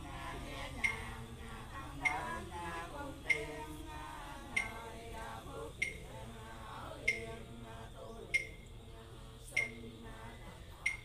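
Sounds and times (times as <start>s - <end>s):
voices chanting prayers: 0.0s - 11.0s.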